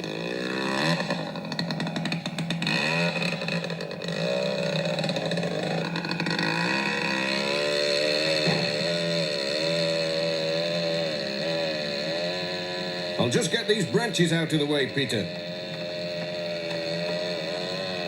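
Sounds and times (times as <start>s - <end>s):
chainsaw revving: 0.0s - 18.0s
chainsaw starting with sputter: 0.0s - 18.0s.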